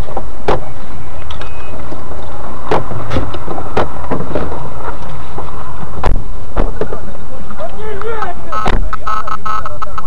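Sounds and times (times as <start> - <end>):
rumble of burning fire: 0.0 - 10.0.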